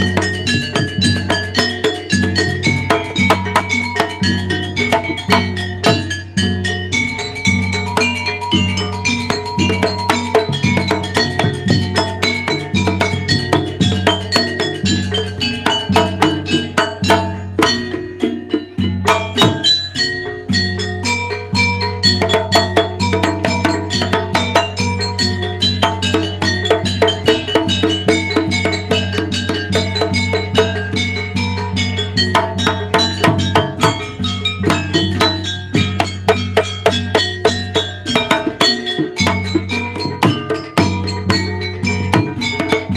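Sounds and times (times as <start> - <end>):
drums: 0.0 - 42.9
gamelan metal percussion: 0.0 - 42.9.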